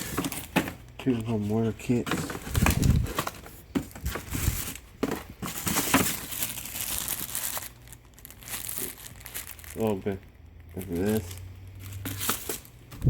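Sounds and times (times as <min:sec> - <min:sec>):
wrapping crinkling and rustling: 0:00.0 - 0:13.0.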